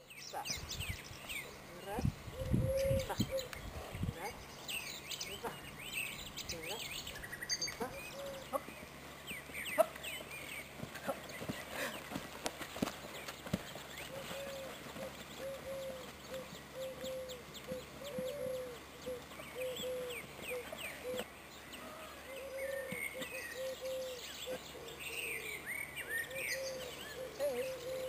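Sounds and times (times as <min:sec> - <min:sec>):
low repeated bird calls: 0:00.0 - 0:28.0.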